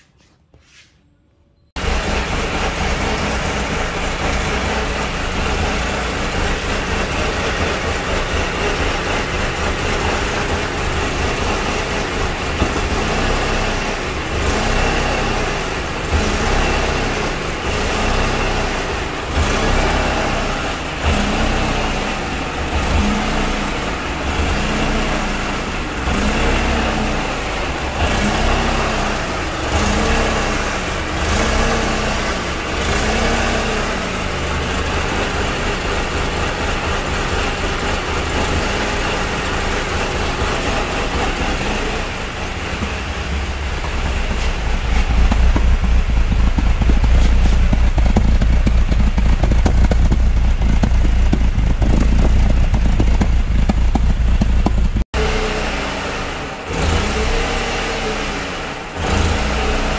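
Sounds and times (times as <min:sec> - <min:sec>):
car engine idling: 0:01.8 - 0:59.9.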